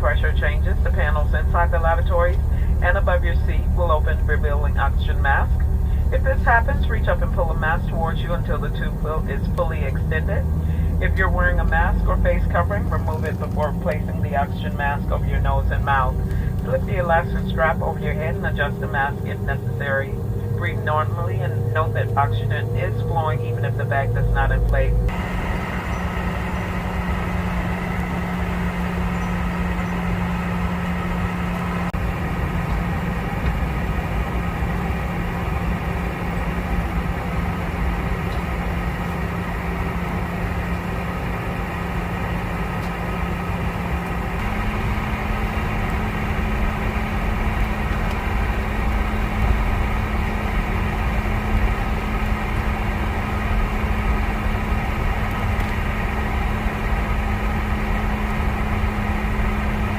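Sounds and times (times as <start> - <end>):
jet engines humming: 0.0 - 59.9.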